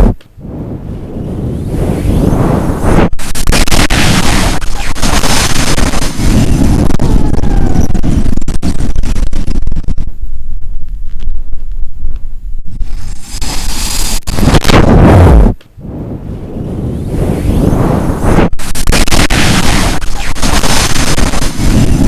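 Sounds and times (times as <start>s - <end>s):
hard wind buffeting microphone: 0.0s - 22.0s.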